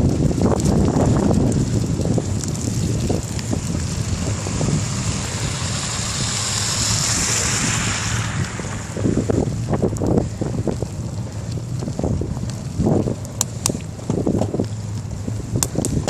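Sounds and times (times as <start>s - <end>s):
wind rumbling on microphone: 0.0s - 16.0s
hiss of tyres on slush: 0.1s - 16.0s.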